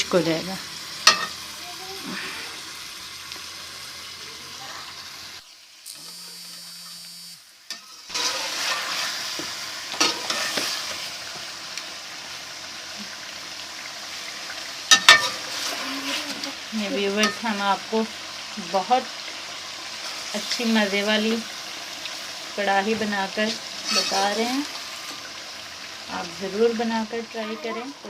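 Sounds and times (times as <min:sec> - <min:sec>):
chicken sizzling in hot oil: 0:00.0 - 0:28.0.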